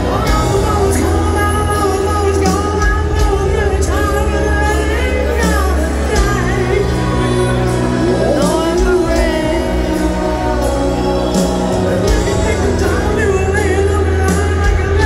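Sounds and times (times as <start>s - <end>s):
low bass notes: 0.0s - 15.0s
man singing slow melody: 0.0s - 15.0s
piano: 0.0s - 15.0s.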